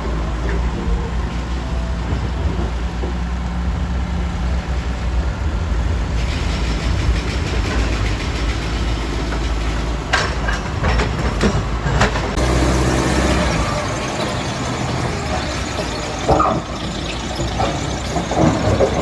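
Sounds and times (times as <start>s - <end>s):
heavy machinery deep rumble: 0.0s - 19.0s.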